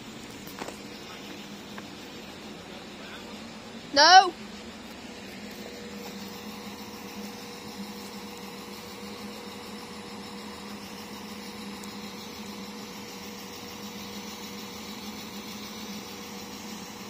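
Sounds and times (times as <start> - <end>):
diesel train engine idling: 0.0 - 17.0.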